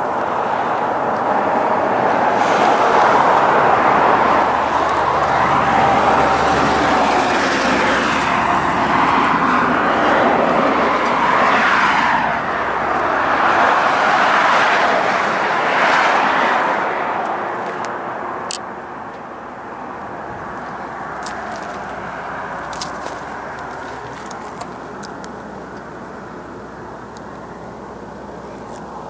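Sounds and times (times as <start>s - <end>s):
passing vehicles rushing: 0.0s - 29.0s.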